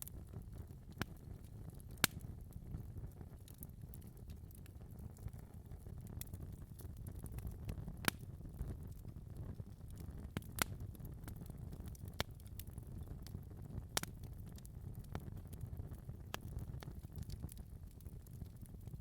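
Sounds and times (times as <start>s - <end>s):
fire crackling snaps and pops: 0.0s - 19.0s
low rumble of flames: 0.0s - 19.0s.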